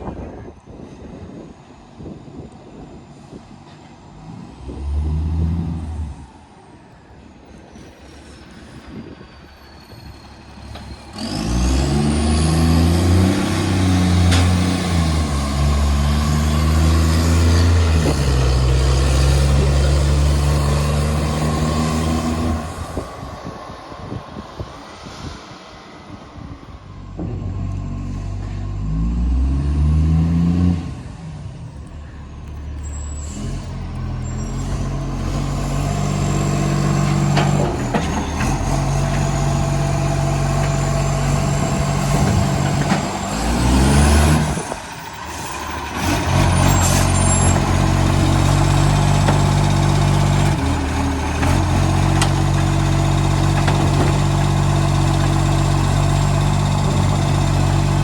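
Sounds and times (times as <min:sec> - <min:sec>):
diesel truck engine revving: 0:04.2 - 0:06.3, 0:10.3 - 0:58.0.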